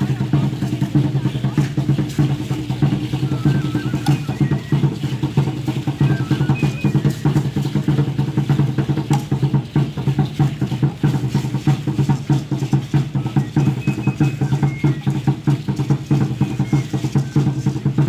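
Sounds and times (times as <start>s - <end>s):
large drum beating fast: 0.0s - 18.0s
seed-pod ankle rattles shaking: 0.0s - 18.0s.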